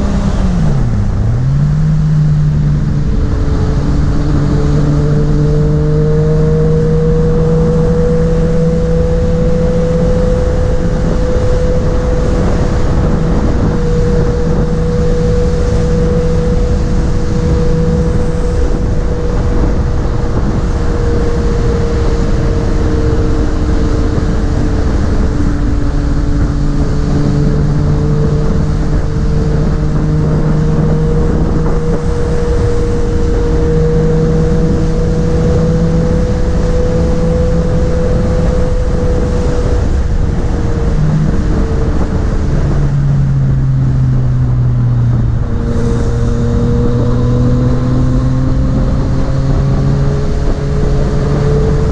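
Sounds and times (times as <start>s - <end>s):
motorcycle engine cruising: 0.0s - 51.9s
wind rush: 0.0s - 51.9s.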